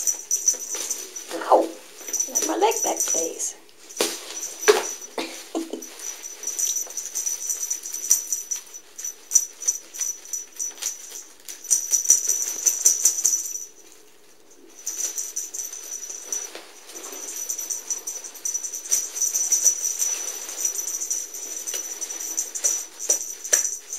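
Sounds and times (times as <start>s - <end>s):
cat toys rustling and rattling: 0.0s - 23.9s.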